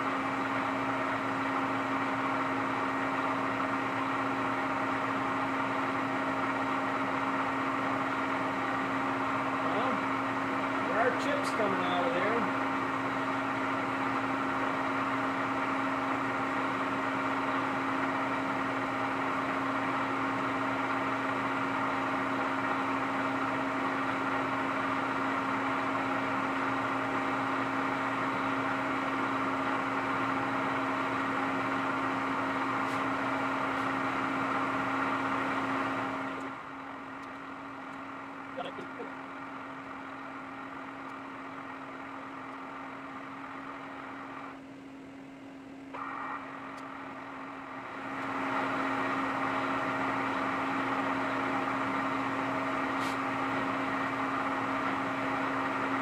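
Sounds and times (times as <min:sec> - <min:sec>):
drill press humming: 0:00.0 - 0:56.0.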